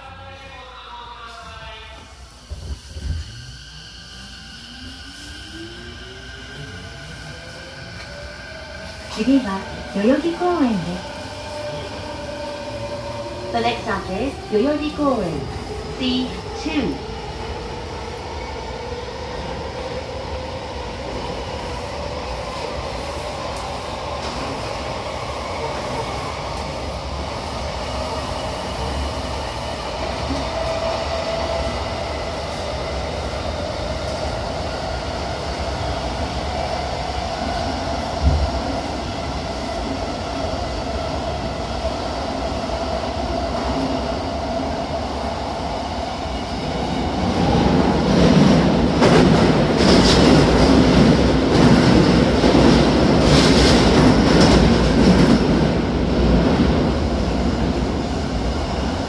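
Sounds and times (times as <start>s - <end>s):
train wheels rumbling on rails: 2.3s - 59.0s.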